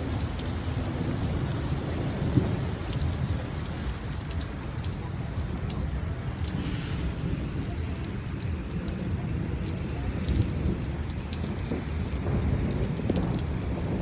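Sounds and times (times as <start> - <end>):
hailstones ticking: 0.0 - 14.0
rain rushing hiss: 0.0 - 14.0.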